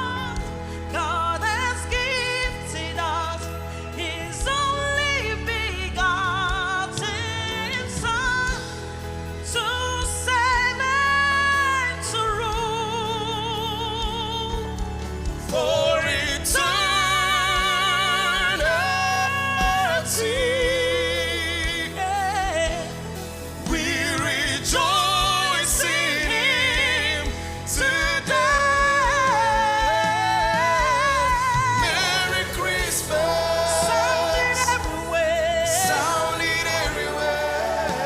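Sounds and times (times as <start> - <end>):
band accompaniment: 0.0 - 38.0
gospel singing: 0.0 - 38.0.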